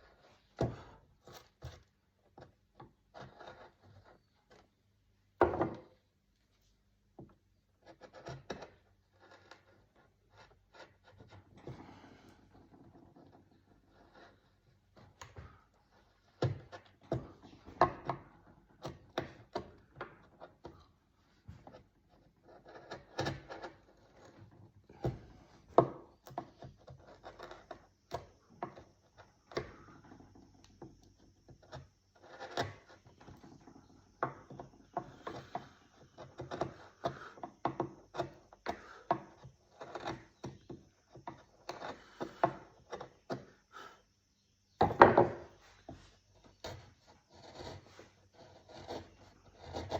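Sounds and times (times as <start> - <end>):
chisel cutting and scraping wood: 0.0 - 49.9.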